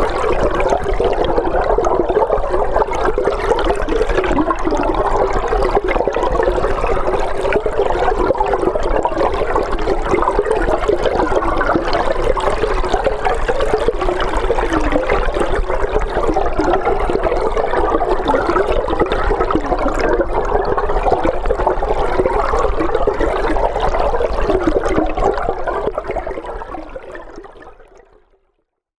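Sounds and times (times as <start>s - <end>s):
underwater rush of flowing water: 0.0s - 28.2s.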